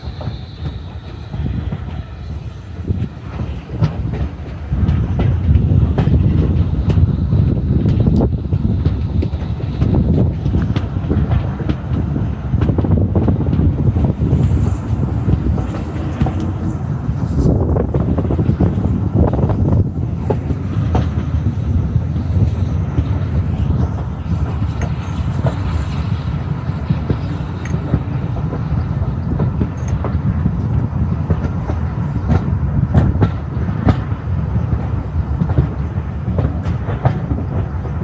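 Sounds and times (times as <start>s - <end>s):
wheels rumbling on rail: 0.0s - 38.0s
wheels clicking over rail joints: 2.8s - 38.0s.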